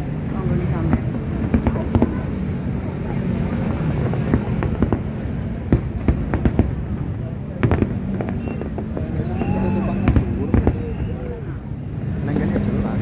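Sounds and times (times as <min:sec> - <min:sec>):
fireworks bursting: 0:00.0 - 0:13.0
murmur of crowd: 0:00.0 - 0:13.0.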